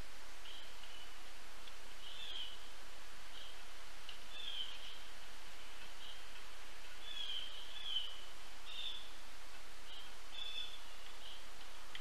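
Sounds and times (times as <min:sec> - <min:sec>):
outdoor hiss: 0:00.0 - 0:12.0.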